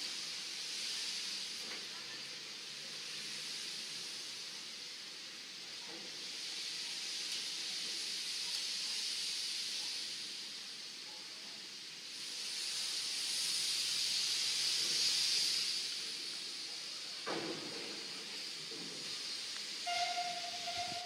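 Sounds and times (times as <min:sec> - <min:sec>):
hiss of venting pressure: 0:00.0 - 0:21.0.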